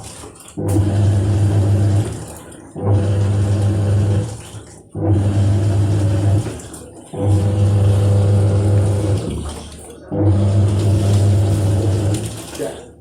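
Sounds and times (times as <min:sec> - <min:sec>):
washing machine drum motor humming: 0:00.0 - 0:13.0
water swishing in drum: 0:00.0 - 0:13.0.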